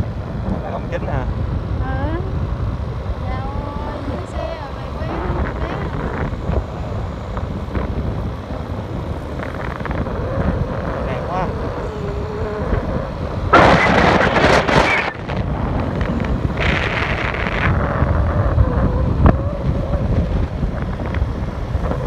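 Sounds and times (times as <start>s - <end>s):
low road rumble: 0.0s - 22.0s
wind buffeting microphone: 0.0s - 22.0s.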